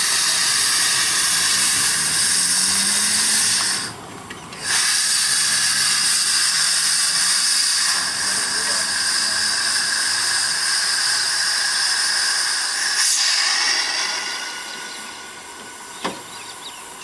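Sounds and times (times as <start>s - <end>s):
steam hissing loudly: 0.0s - 17.0s.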